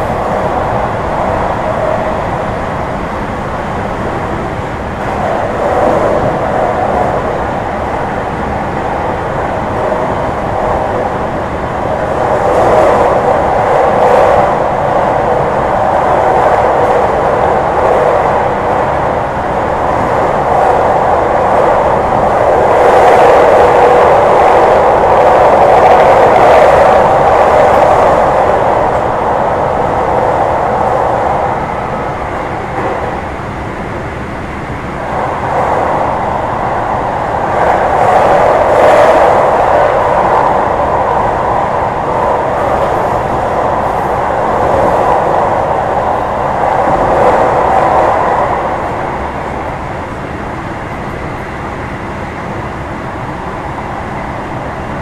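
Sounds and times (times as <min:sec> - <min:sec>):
train wheel-on-rail rumble: 0:00.0 - 0:55.0.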